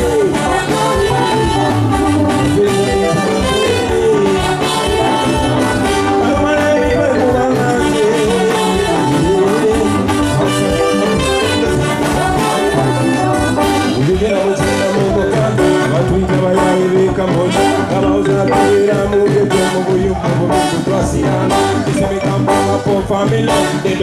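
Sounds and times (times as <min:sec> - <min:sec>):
live band music: 0:00.0 - 0:24.0
trombones and trumpets playing: 0:00.0 - 0:24.0.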